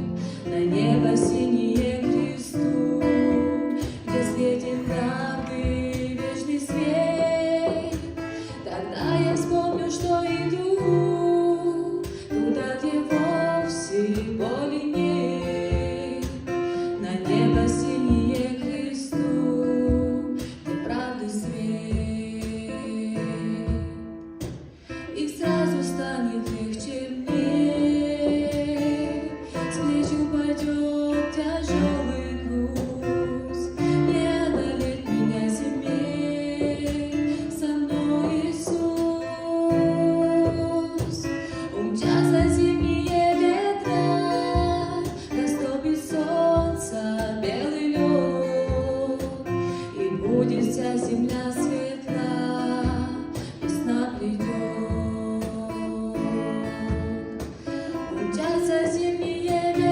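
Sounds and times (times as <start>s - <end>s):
acoustic guitar playing hymn: 0.0s - 59.9s.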